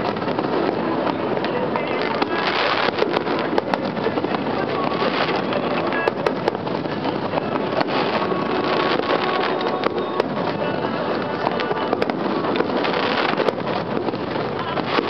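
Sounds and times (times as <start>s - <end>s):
fireworks bursting bangs: 0.0s - 15.0s
fireworks rumble and crackle: 0.0s - 15.0s.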